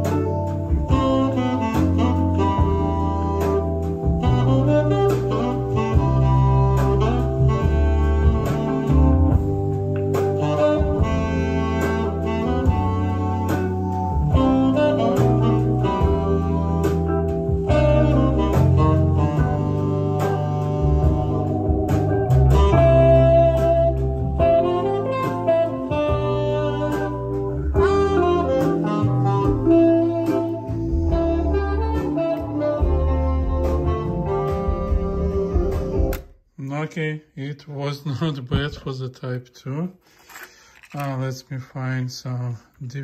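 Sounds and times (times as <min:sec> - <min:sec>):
song with strong bass and beat: 0:00.0 - 0:36.3.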